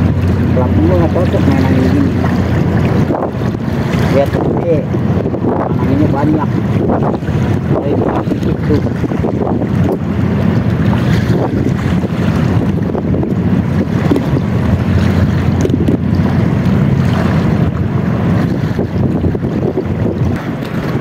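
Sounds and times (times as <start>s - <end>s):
waves washing against rocks: 0.0s - 21.0s
wind buffeting microphone: 0.0s - 21.0s.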